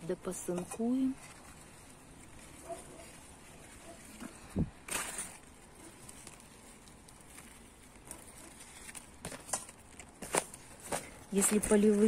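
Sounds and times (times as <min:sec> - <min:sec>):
leaves and vines rustling: 0:00.0 - 0:12.0.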